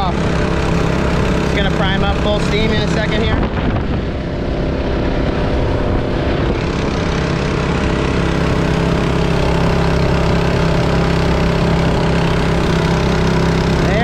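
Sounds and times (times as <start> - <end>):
rush of boat wake: 0.0 - 14.0
small gasoline engine running: 0.0 - 14.0.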